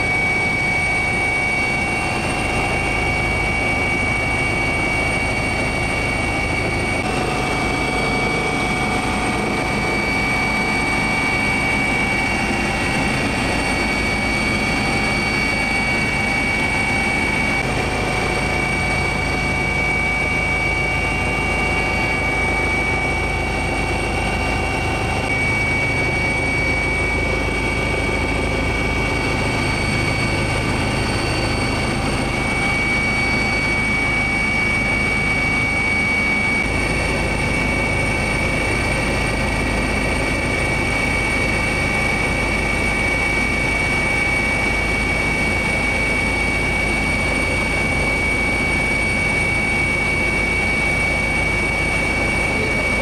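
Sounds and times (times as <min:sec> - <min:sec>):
steady high whine: 0:00.0 - 0:53.0.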